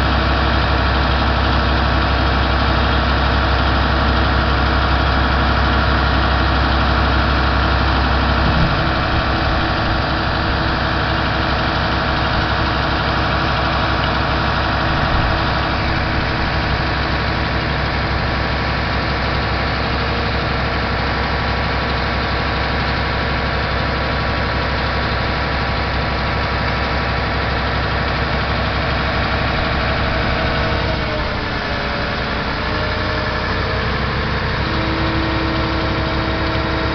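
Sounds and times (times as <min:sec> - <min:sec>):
truck diesel engine running: 0:00.0 - 0:36.9.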